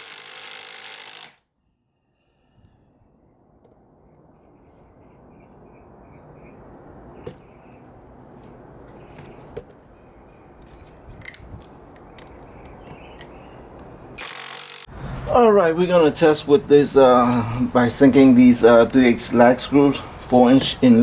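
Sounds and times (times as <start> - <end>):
low background noise: 3.0 - 21.0.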